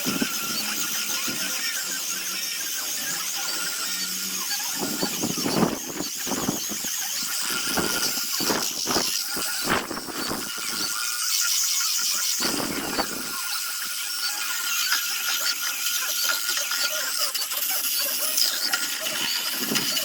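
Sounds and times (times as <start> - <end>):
power sander whining: 0.0 - 20.0
sander grinding against wood: 0.0 - 20.0.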